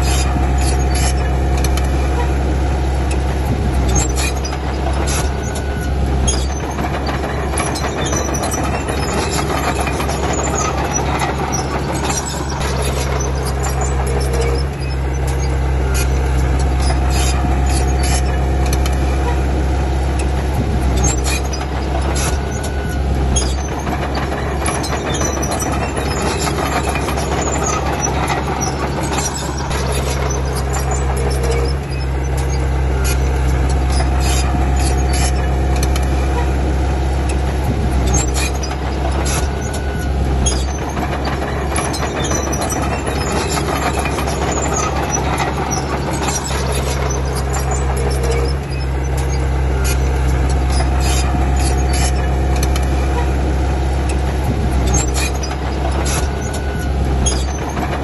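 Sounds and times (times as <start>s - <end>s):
bulldozer diesel engine running: 0.0s - 58.0s
steel tracks clanking and squealing: 0.0s - 58.0s.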